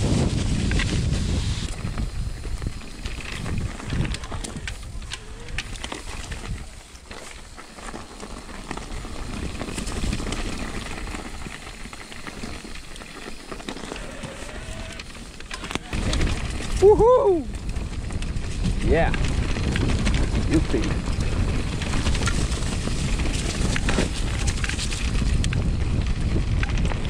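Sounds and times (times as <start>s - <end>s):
bike rattles and knocks: 0.0s - 27.0s
wind rumble on microphone: 0.0s - 27.0s
tyres crackling over gravel: 0.3s - 27.0s.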